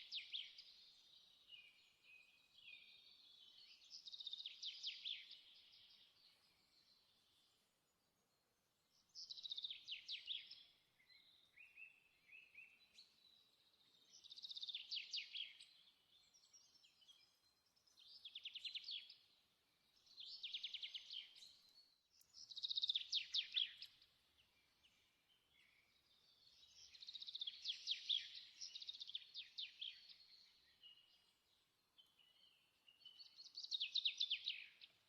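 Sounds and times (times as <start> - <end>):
songbird chirping: 0.0 - 35.0.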